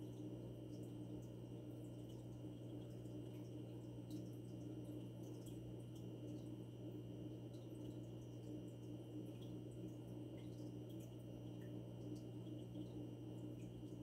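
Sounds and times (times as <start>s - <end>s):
aquarium filter humming: 0.0s - 14.0s
water drips and ticks: 0.0s - 14.0s.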